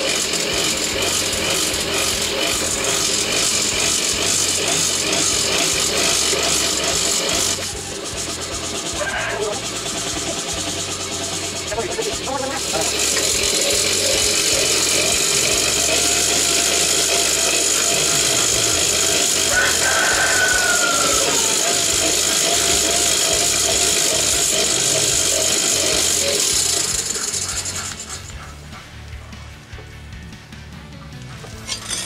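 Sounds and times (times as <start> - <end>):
hand-crank blower whirring: 0.0 - 30.3, 30.9 - 32.0.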